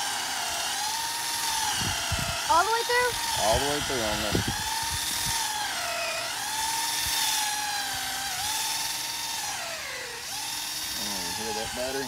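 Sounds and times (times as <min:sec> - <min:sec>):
cordless drill boring into wood: 0:00.0 - 0:12.0.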